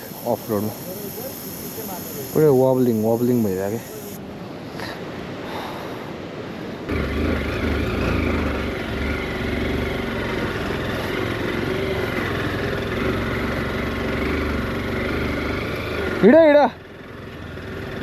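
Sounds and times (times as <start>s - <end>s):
motorcycle engine running: 0.0s - 4.2s, 6.9s - 18.0s.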